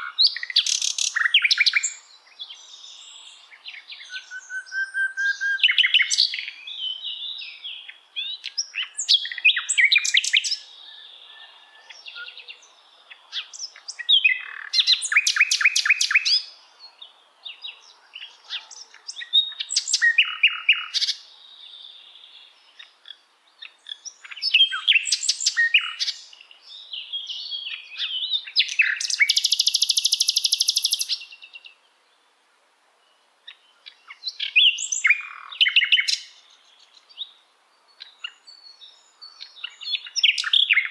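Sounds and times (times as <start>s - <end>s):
bird singing with trills: 0.0s - 31.8s, 33.4s - 40.9s.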